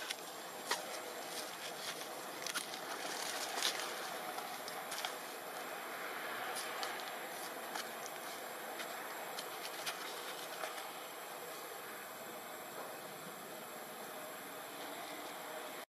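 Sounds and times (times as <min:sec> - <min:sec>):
outdoor background hiss: 0:00.0 - 0:15.9.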